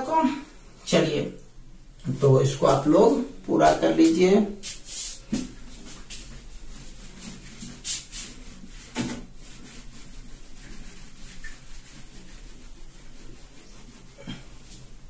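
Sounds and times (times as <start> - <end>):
whiteboard being wiped: 2.1 - 15.0.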